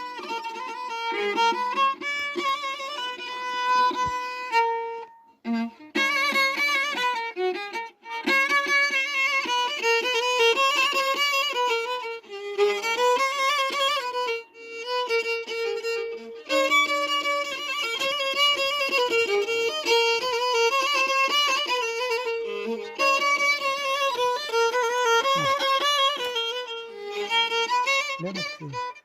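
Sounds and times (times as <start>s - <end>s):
solo violin melody: 0.0s - 29.0s.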